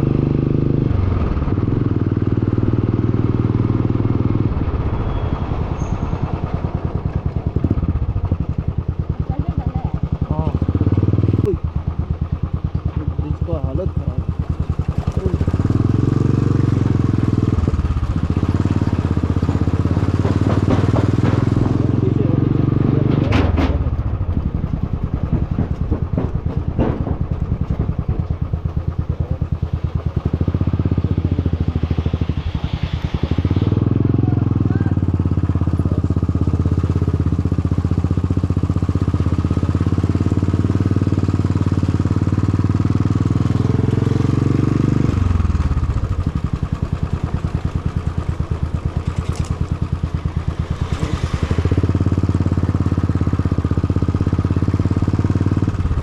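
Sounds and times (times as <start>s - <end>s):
loud motorcycle exhaust: 0.0s - 56.0s.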